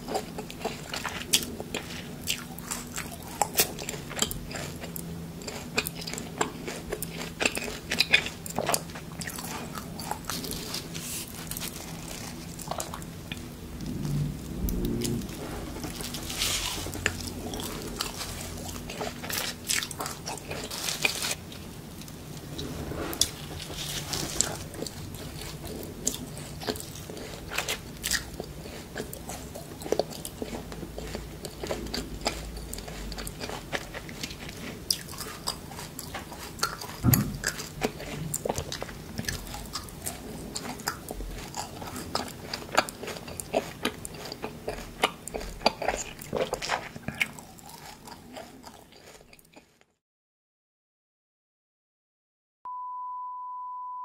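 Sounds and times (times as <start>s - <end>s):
crunchy biting and chewing: 0.0s - 49.9s.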